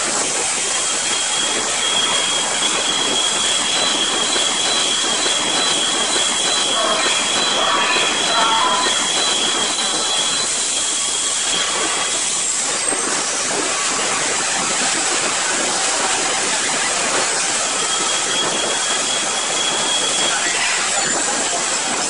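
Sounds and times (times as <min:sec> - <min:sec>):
machine-shop machinery hiss: 0:00.0 - 0:16.4, 0:17.0 - 0:22.0
high-pitched whines: 0:00.2 - 0:21.2.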